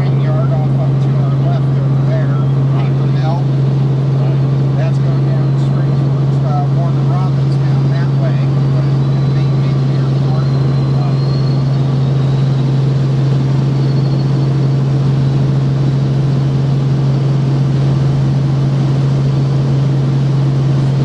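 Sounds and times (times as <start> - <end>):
helicopter drone from cabin: 0.0 - 21.0.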